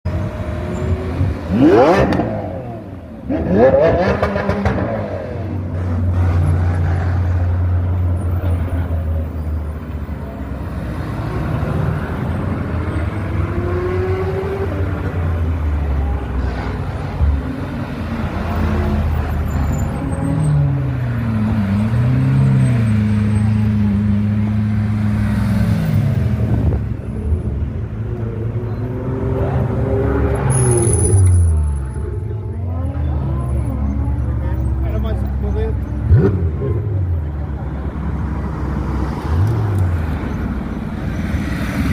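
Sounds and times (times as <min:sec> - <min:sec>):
car engine rumbling: 0:00.0 - 0:41.9.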